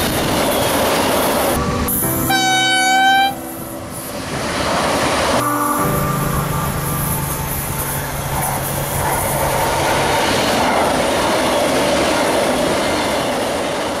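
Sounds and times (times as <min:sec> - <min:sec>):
train wheels rolling on rails: 0:00.0 - 0:05.4, 0:06.6 - 0:14.0.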